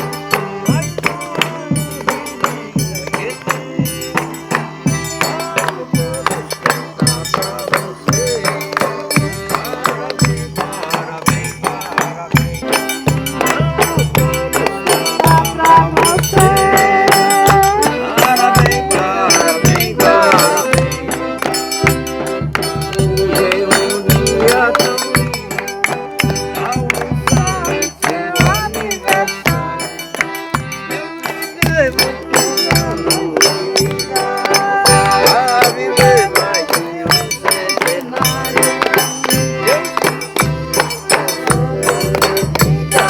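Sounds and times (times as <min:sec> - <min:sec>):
accordion: 0:00.0 - 0:43.0
deep drum beats: 0:00.0 - 0:43.0.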